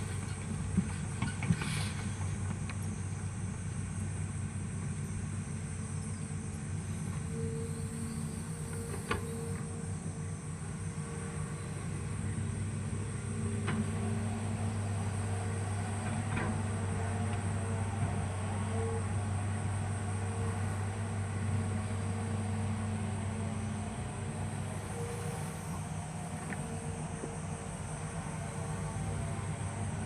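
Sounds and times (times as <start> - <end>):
excavator diesel engine running: 4.5 - 30.0.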